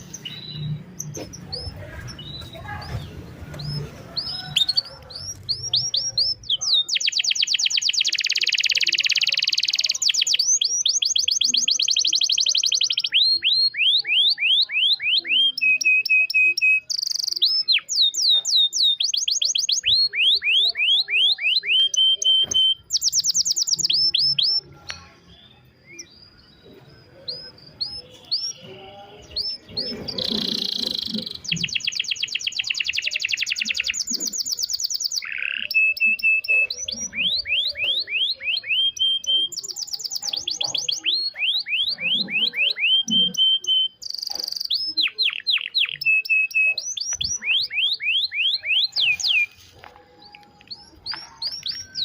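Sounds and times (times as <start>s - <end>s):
canary singing trills: 0.0s - 52.0s.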